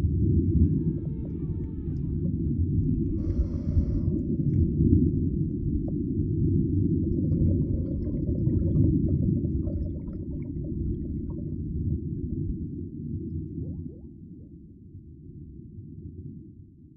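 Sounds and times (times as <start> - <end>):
muffled underwater rumble: 0.0 - 16.9.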